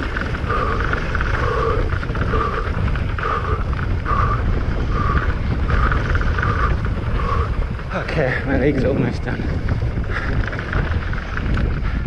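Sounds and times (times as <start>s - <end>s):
rider breathing hard: 0.0s - 8.5s, 9.6s - 12.0s
bike rattle and wind rumble: 0.0s - 12.0s.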